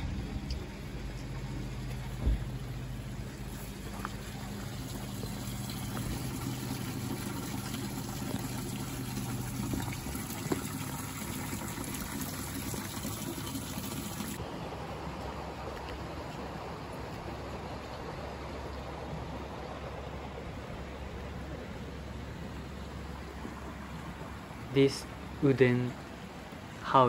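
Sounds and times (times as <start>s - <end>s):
water running through stone channel: 0.0s - 27.0s.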